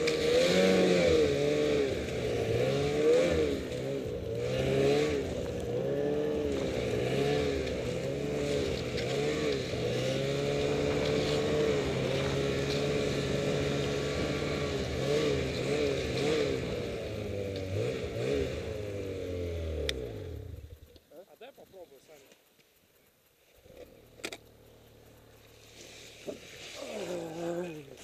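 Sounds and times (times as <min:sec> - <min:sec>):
snowmobile engine running: 0:00.0 - 0:22.4, 0:23.5 - 0:28.0.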